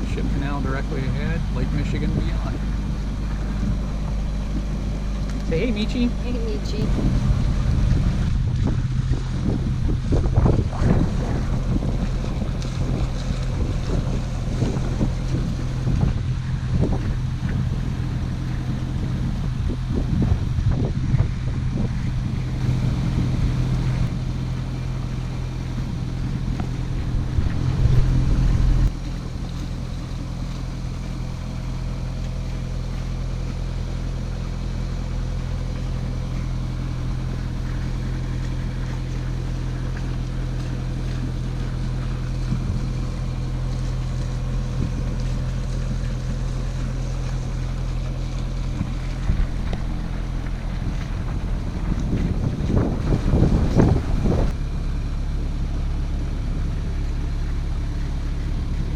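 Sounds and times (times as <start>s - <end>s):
boat engine humming: 0.0s - 58.9s
water and wind wash: 0.0s - 58.9s.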